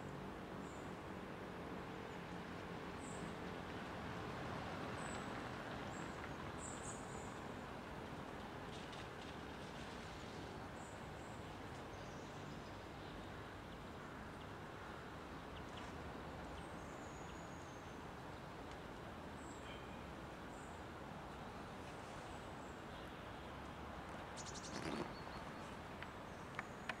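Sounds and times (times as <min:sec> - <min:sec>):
faint outdoor background noise: 0:00.0 - 0:27.0
rustle: 0:00.0 - 0:27.0.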